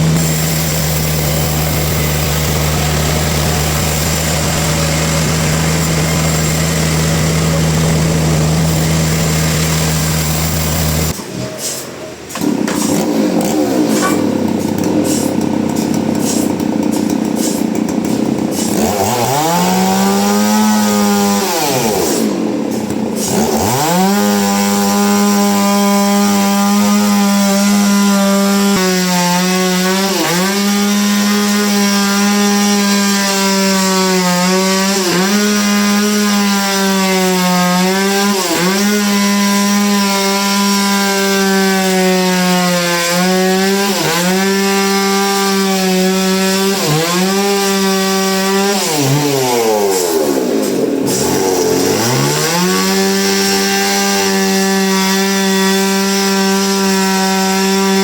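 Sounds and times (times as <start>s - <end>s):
chainsaw cutting wood: 0.0s - 11.2s, 12.3s - 58.0s
noisy rasping: 0.0s - 11.2s, 12.3s - 58.0s.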